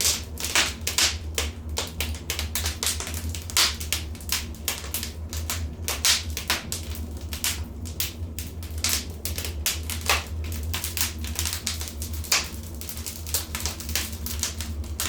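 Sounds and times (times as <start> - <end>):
low steady hum: 0.0 - 15.0
wood fire crackling: 0.0 - 15.0.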